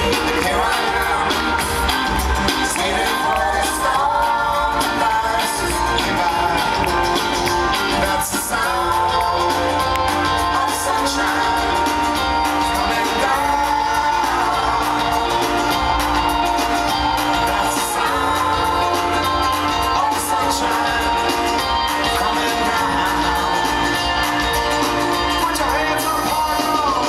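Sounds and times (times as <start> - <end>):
live band with singing: 0.0 - 27.0.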